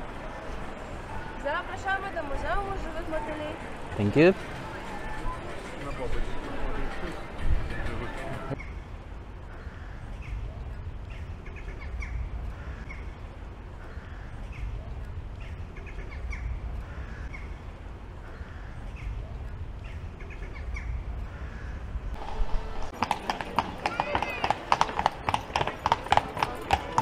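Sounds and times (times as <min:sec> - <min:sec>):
low street rumble: 0:00.0 - 0:27.0.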